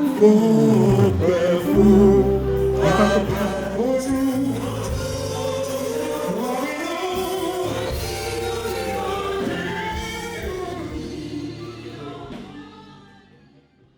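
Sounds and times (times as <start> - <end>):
church choir singing a hymn: 0.0 - 13.6.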